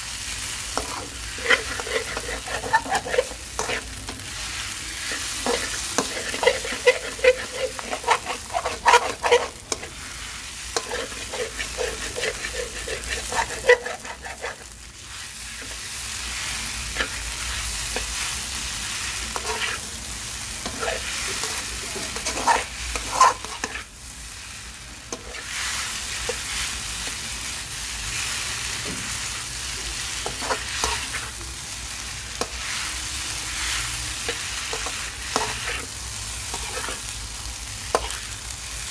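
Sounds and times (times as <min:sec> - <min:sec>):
food sizzling in a wok: 0:00.0 - 0:38.9
spatula scraping a wok: 0:00.5 - 0:37.2, 0:37.8 - 0:38.6.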